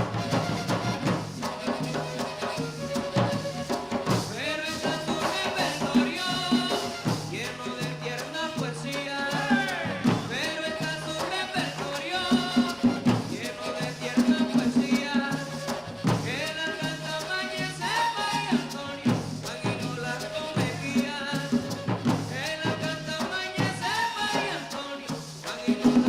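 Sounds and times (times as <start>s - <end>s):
flutes playing sliding melody: 0.0s - 8.7s, 9.6s - 24.8s
drum and rattle percussion: 0.0s - 26.0s.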